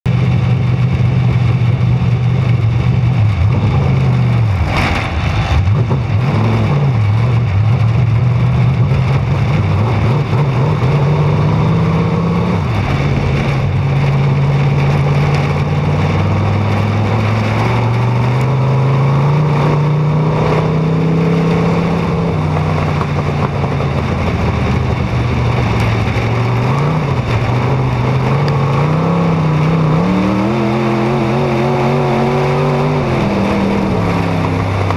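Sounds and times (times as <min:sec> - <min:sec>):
race car engine running hard: 0:00.0 - 0:34.9
wind rush over camera: 0:01.0 - 0:34.9.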